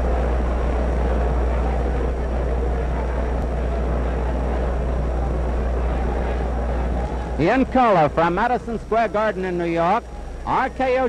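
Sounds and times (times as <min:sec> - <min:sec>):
constant low hum: 0:00.0 - 0:11.0
steady noise: 0:00.0 - 0:11.0.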